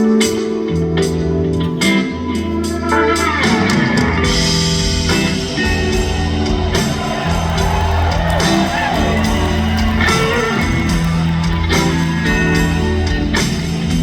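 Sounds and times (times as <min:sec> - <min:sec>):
bass and drums: 0:00.0 - 0:14.0.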